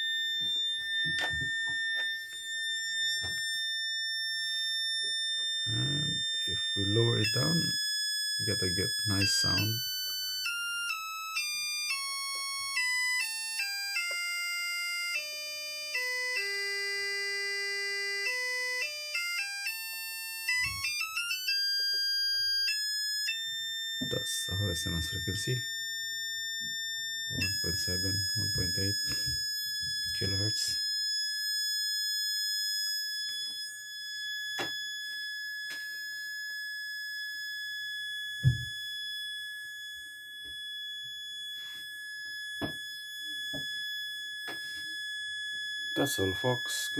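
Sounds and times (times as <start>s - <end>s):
high-pitched electrical whine: 0.0s - 14.2s, 20.5s - 30.9s, 31.5s - 46.9s.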